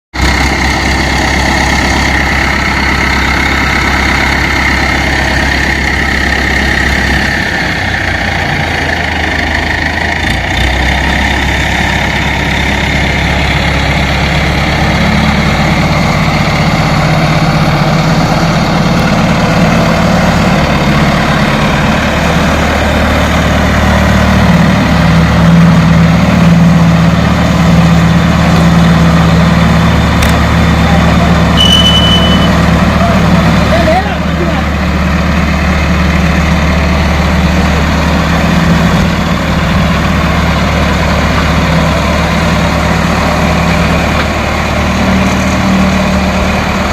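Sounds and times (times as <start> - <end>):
heavy engine idling: 0.2 - 46.9.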